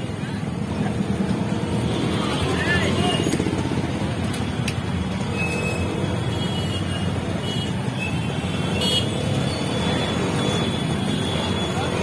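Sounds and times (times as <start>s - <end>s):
motorcycle and scooter engines: 0.0s - 12.0s.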